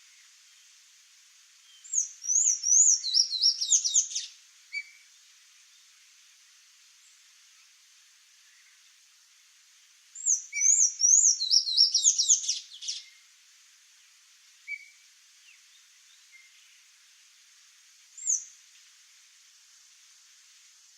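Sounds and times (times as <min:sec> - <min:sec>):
faint hiss: 0:00.0 - 0:20.9.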